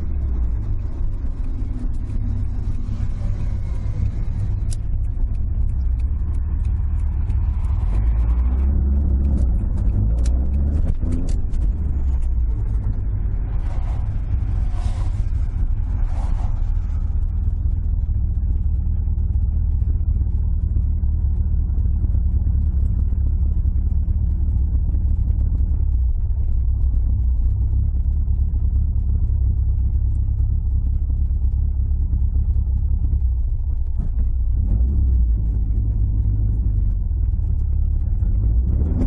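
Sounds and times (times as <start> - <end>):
car engine drone from cabin: 0.0 - 39.0.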